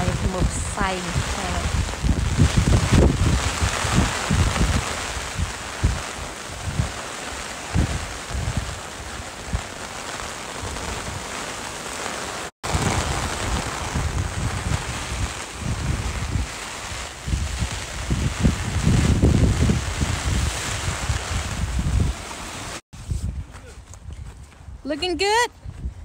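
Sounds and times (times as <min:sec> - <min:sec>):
wind buffeting microphone: 0:00.0 - 0:12.0, 0:12.6 - 0:26.0
heavy rain on umbrella: 0:00.0 - 0:22.8.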